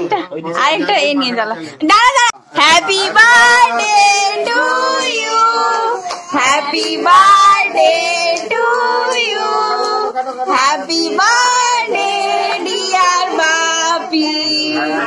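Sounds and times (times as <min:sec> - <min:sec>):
child singing: 0:02.6 - 0:15.0
woman singing: 0:02.6 - 0:15.0.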